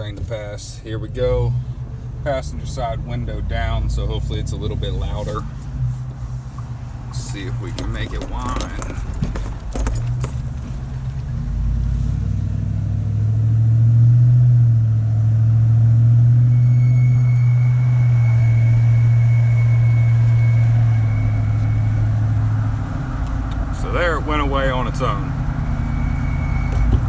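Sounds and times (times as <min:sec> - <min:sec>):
truck engine accelerating: 0:00.0 - 0:27.0.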